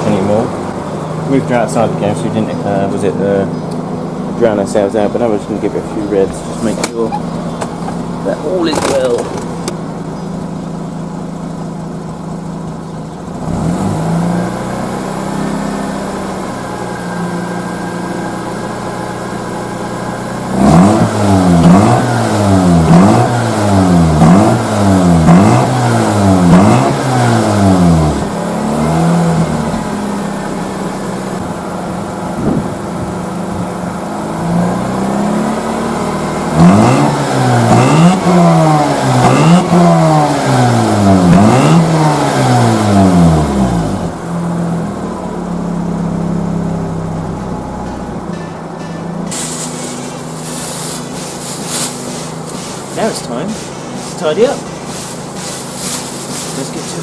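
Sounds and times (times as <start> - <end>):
rotary engine idling and revving: 0.0 - 57.0.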